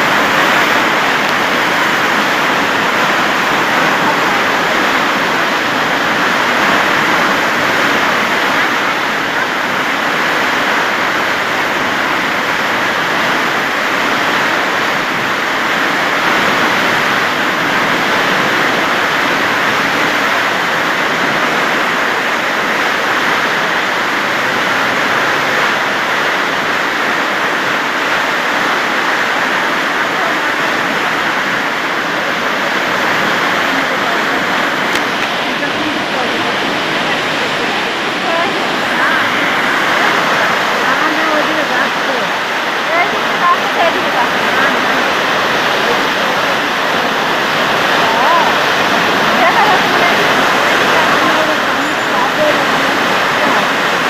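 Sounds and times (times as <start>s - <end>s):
water rushing along boat hull: 0.0s - 54.0s.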